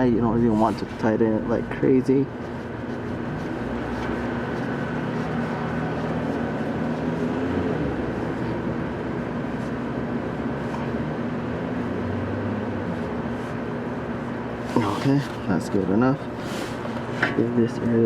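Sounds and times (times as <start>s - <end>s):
low background hum and rumble: 0.0s - 18.0s.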